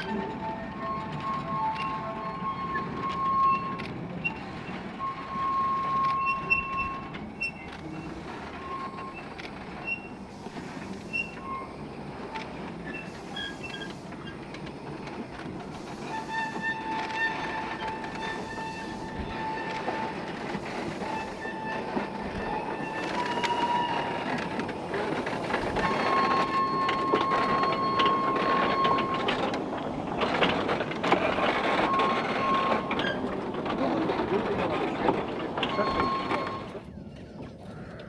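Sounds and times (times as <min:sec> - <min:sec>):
wheels clicking over rail joints: 0:00.0 - 0:38.0
high-pitched wheel squeals: 0:00.1 - 0:10.2, 0:11.1 - 0:14.4, 0:16.0 - 0:33.6, 0:35.6 - 0:36.8.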